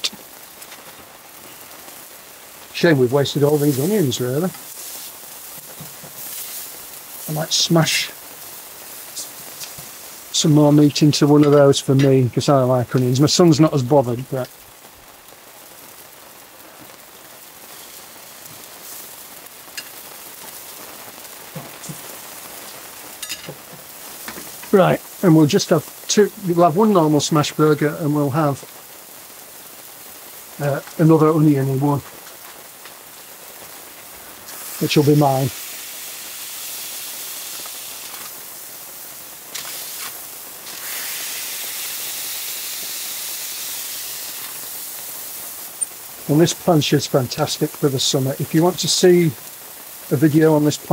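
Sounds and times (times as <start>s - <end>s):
falling rain: 0.0s - 50.9s
meat frying on a hot plate: 0.0s - 50.9s
patties and onions sizzling: 0.0s - 50.9s.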